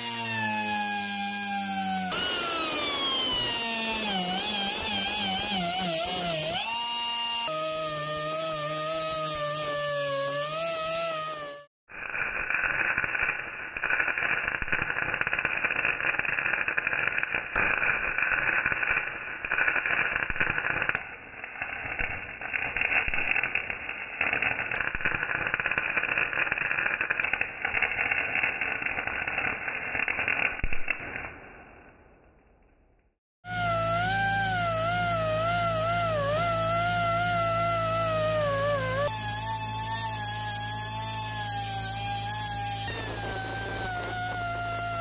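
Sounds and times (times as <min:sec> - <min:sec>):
welding arc crackling: 0:00.0 - 0:31.9, 0:33.4 - 0:45.0.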